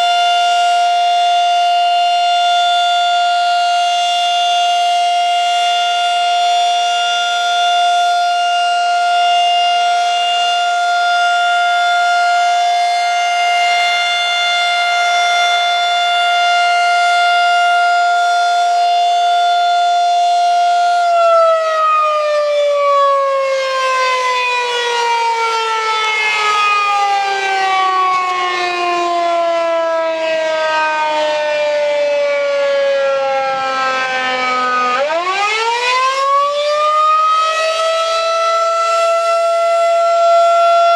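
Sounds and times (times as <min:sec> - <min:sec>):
outdoor warning siren: 0:00.0 - 0:40.9.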